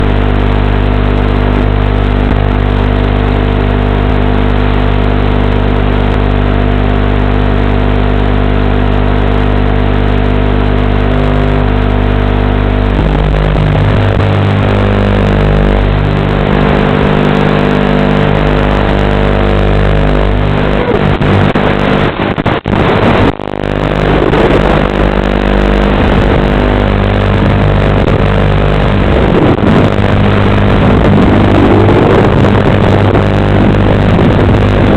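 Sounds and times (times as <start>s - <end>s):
drone propellers buzzing: 0.0s - 34.9s.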